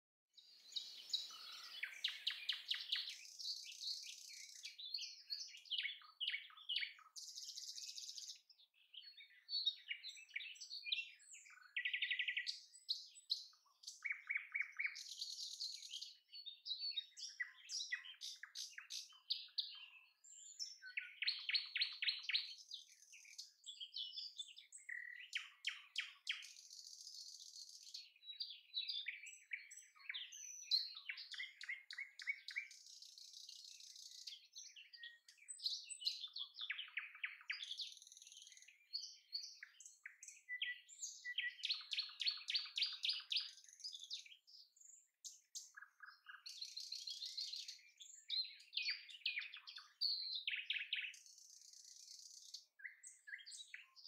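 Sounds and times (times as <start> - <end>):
birds chirping and twittering: 0.3 - 54.0.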